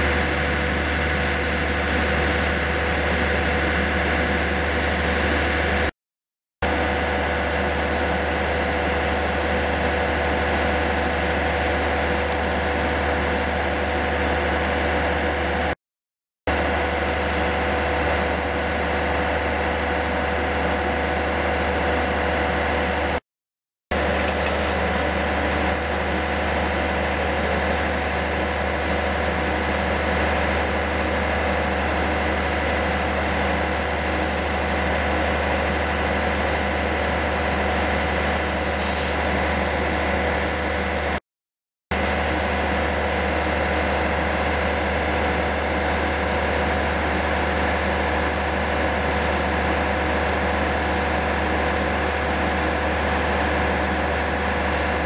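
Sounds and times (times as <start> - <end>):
train idling drone: 0.0 - 5.9, 6.6 - 15.8, 16.5 - 23.2, 24.0 - 41.2, 41.9 - 55.0.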